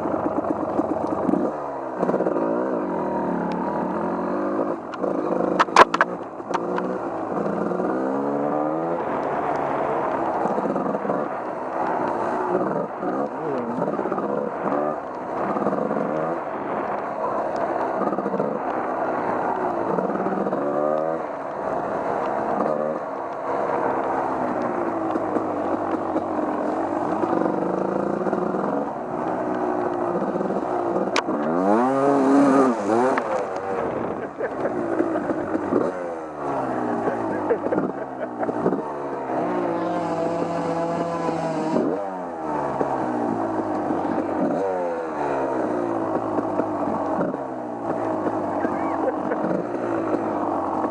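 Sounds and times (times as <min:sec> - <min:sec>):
off-road engine revving: 0:00.0 - 0:50.9.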